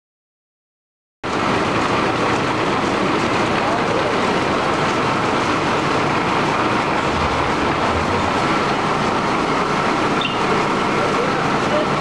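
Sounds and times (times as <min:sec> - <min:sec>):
folder-gluer machine running: 0:01.3 - 0:12.0.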